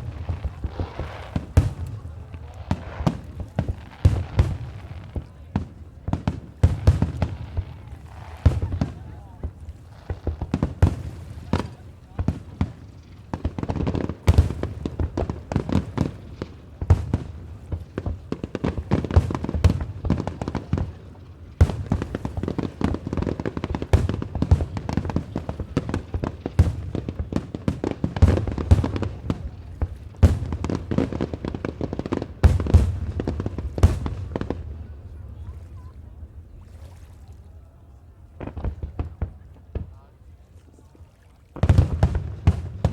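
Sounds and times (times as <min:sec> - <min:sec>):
fireworks bangs and crackling: 0:00.0 - 0:36.5, 0:38.3 - 0:40.9, 0:41.5 - 0:42.9.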